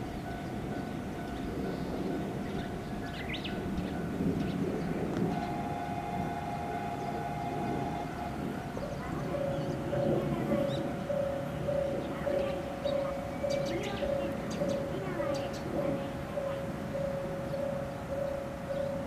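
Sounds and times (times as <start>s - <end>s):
approaching train rumble: 0.0s - 19.0s
level crossing alarms ringing: 0.0s - 19.0s.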